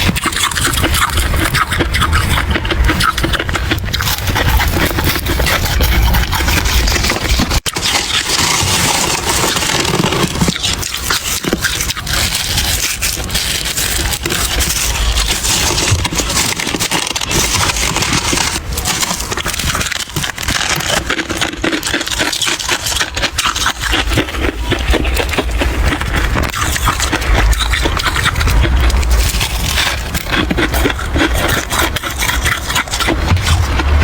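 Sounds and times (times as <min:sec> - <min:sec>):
frost ice crunching: 0:00.0 - 0:34.0.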